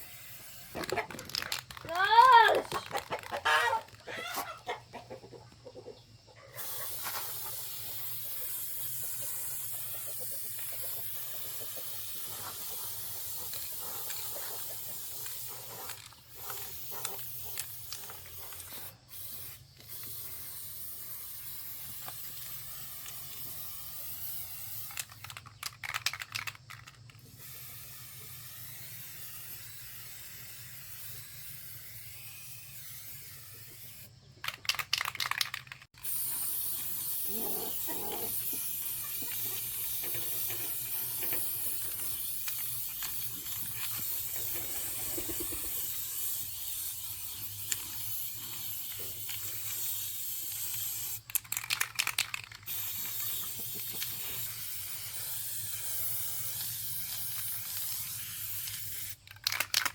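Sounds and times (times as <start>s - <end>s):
steady hissing: 6.5s - 59.9s.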